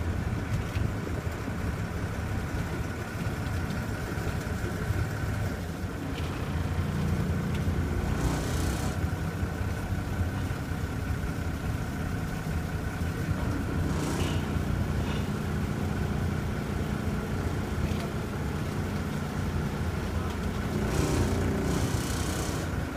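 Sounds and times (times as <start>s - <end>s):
boat engine humming: 0.0s - 22.9s.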